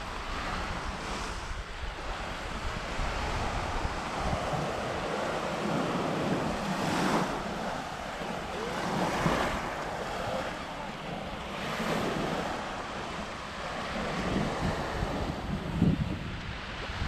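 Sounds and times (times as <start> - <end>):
small waves breaking on shore: 0.0 - 17.0
wind buffeting microphone: 0.0 - 17.0.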